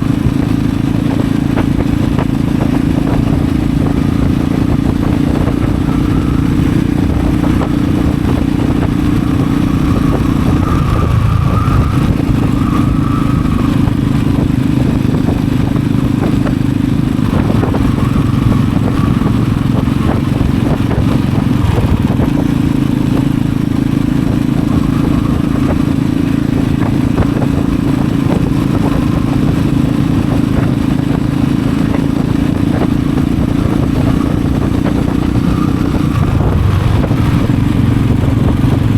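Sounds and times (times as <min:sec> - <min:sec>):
motorcycle exhaust note: 0:00.0 - 0:38.9
road noise: 0:00.0 - 0:38.9
wind rush: 0:00.0 - 0:38.9.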